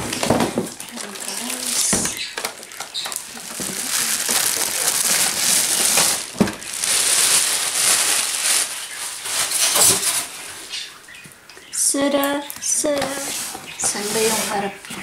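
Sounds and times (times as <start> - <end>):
plastic bag rustling: 0.0 - 11.2, 13.0 - 15.0.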